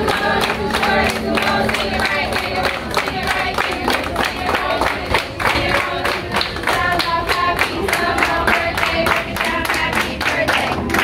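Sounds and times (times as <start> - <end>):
group singing a birthday song: 0.0 - 11.0
rhythmic hand clapping: 0.0 - 11.0.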